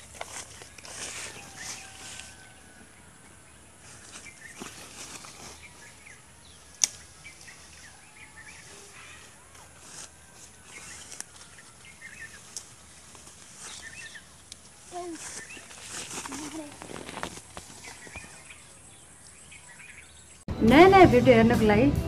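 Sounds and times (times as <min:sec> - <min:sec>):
small birds chirping: 0:00.0 - 0:20.5.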